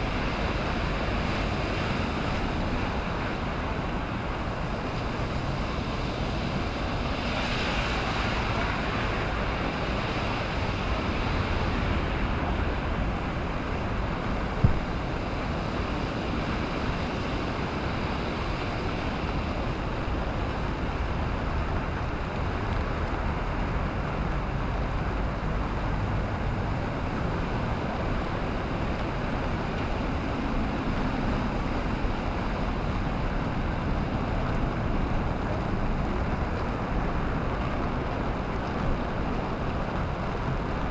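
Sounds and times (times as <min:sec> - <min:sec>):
surf breaking on a beach: 0:00.0 - 0:40.9
wind rumbling on microphone: 0:00.0 - 0:40.9.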